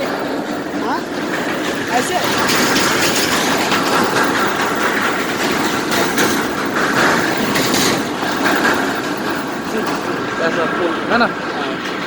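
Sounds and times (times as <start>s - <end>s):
steel bridge deck rattling under traffic: 0.0s - 12.0s.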